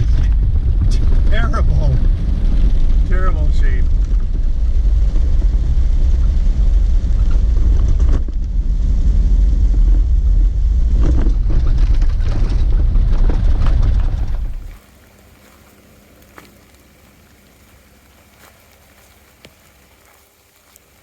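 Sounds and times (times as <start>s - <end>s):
car engine and road drone: 0.0s - 21.0s.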